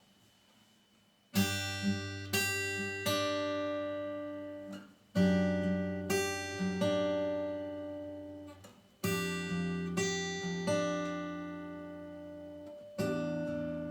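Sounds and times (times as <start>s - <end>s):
acoustic guitar chords strummed: 1.4s - 13.9s.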